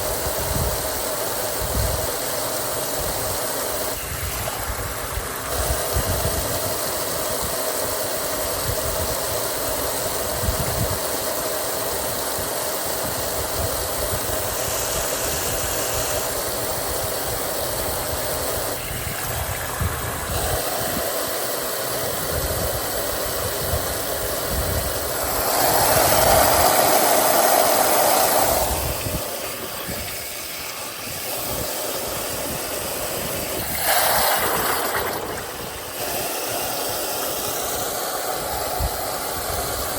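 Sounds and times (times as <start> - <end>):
washing machine running: 0.0 - 39.9
washing machine rushing noise: 0.0 - 39.9.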